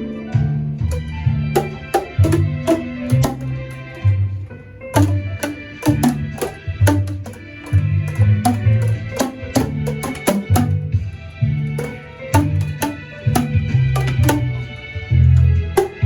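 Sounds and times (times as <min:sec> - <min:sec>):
music with drum beat and bass: 0:00.0 - 0:16.0.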